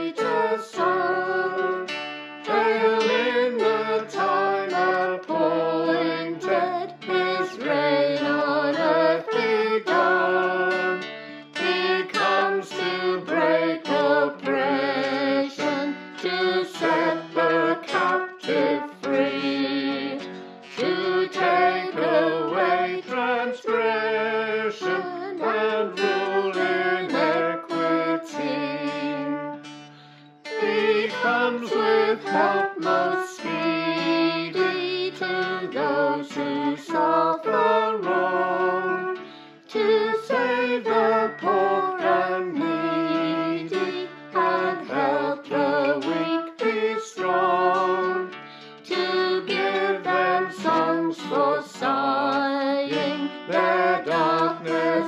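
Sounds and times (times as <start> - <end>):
group singing a hymn: 0.0 - 29.7, 30.5 - 55.0
guitar accompaniment: 0.0 - 55.0.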